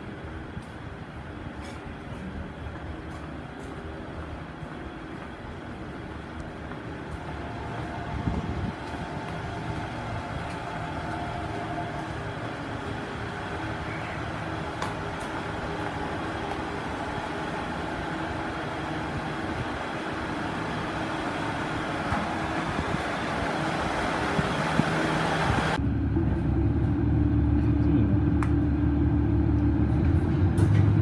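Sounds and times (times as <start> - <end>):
low rumble inside train car: 0.0 - 31.0
train rumble and hum: 0.0 - 31.0.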